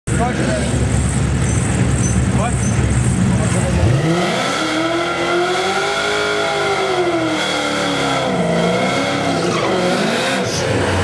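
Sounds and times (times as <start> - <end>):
car engine revving hard: 0.2 - 11.0.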